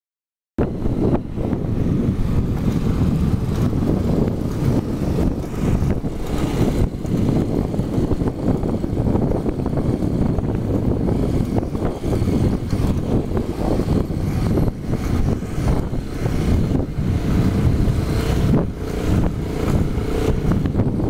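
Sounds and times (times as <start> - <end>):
motorcycle engine rumble: 0.6 - 21.0
wind buffeting microphone: 0.6 - 21.0.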